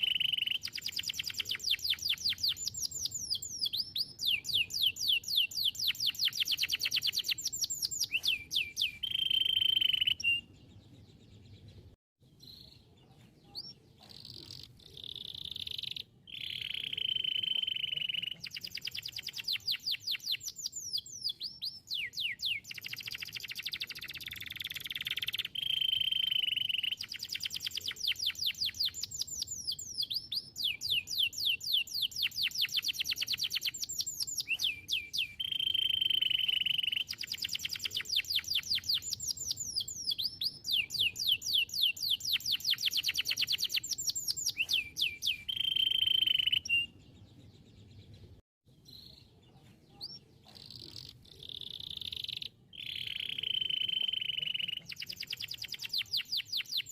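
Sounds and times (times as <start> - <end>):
canary singing trills: 0.0 - 56.9
faint bird chirps: 0.0 - 56.9.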